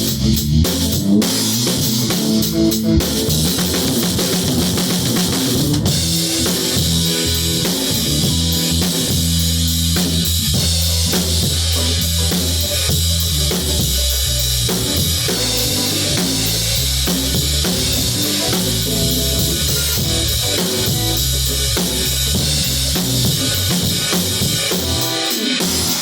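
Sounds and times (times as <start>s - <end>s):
rock music with drums and guitar: 0.0s - 26.0s.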